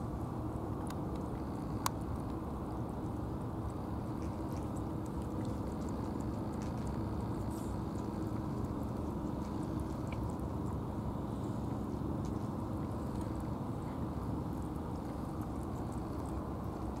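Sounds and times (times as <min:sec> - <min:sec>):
cats chewing and licking: 0:00.0 - 0:17.0
low rumbling background noise: 0:00.0 - 0:17.0.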